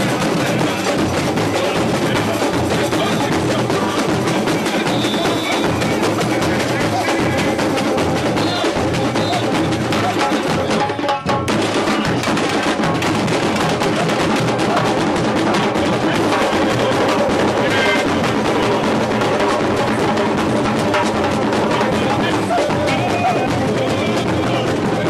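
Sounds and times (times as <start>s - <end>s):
samba drumming: 0.0s - 25.0s.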